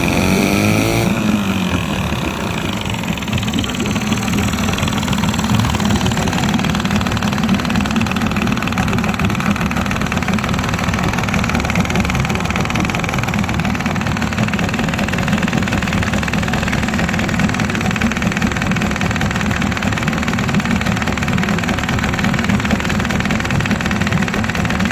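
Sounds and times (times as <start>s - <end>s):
outboard motor running: 0.0s - 24.9s.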